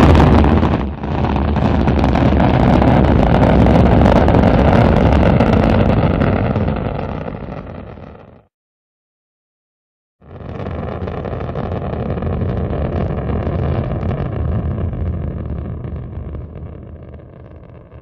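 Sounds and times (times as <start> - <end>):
rocket engine firing: 0.0 - 8.4, 10.3 - 18.0.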